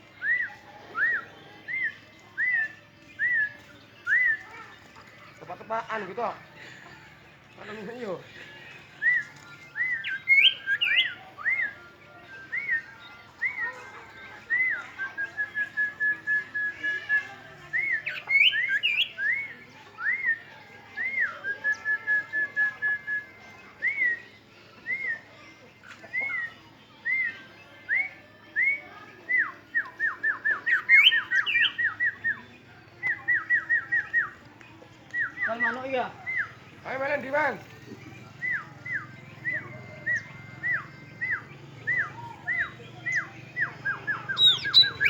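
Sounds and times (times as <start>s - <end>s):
songbird whistling: 0.0s - 4.8s, 8.4s - 45.0s.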